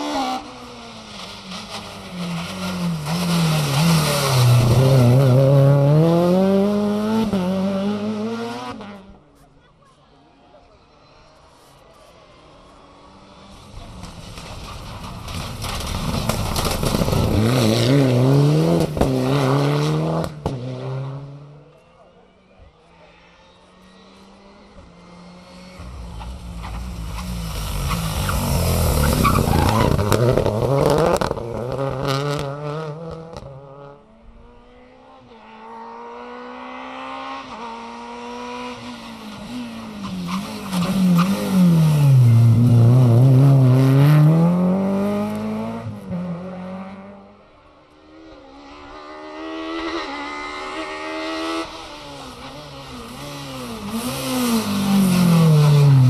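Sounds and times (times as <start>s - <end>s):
rally car engines passing: 0.0s - 9.4s, 10.6s - 56.0s.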